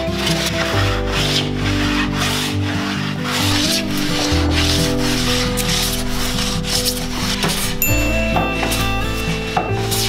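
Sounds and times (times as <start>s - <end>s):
background music: 0.0s - 10.0s
hand plane shaving wood: 0.0s - 10.0s.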